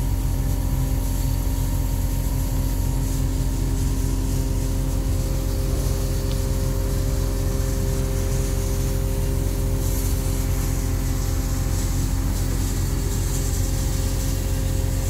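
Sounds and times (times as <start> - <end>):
machine engine droning: 0.0 - 15.0.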